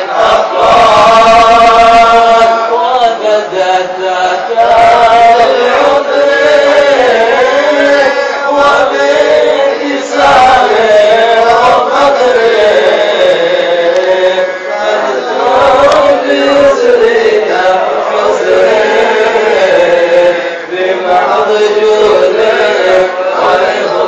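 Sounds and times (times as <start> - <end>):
men chanting a devotional song: 0.0 - 24.0.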